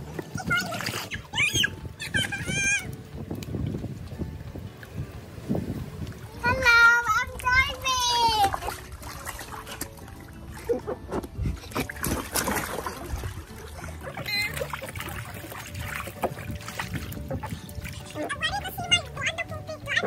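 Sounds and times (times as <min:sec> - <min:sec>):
water splashing in paddling pool: 0:00.0 - 0:20.0.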